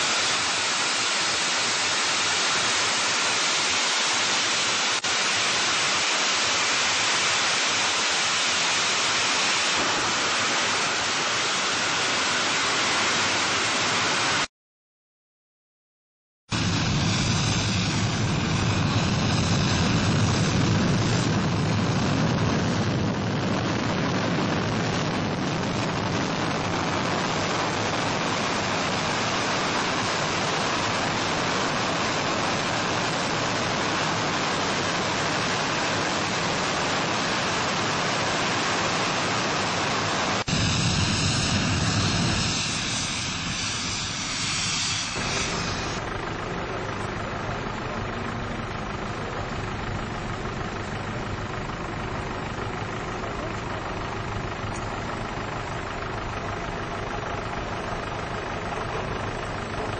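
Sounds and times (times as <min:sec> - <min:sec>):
jet engine in afterburner: 0:00.0 - 0:14.5, 0:16.5 - 0:59.9.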